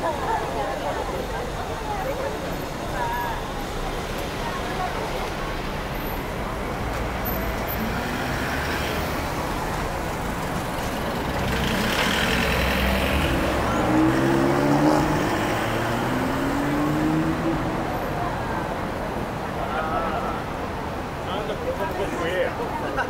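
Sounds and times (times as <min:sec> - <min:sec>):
cars passing with low rumble: 0:00.0 - 0:23.0.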